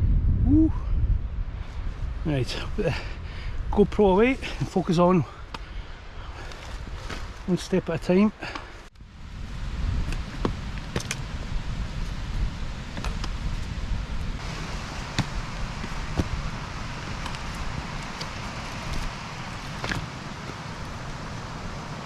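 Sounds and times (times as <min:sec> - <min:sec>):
wind on microphone: 0:00.0 - 0:04.7, 0:09.0 - 0:22.0.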